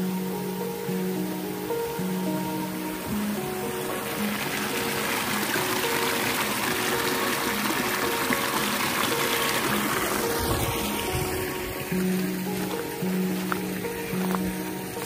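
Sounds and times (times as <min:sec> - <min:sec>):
background music with held notes: 0:00.0 - 0:15.0
stream running over stones: 0:00.0 - 0:15.0.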